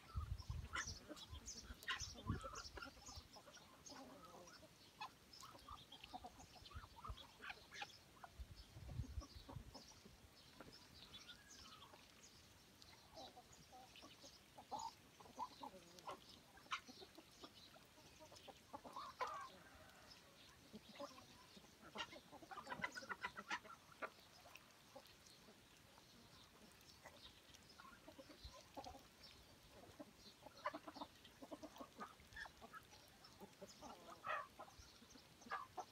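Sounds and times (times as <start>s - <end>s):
chickens clucking: 0.0s - 11.1s, 13.1s - 35.9s.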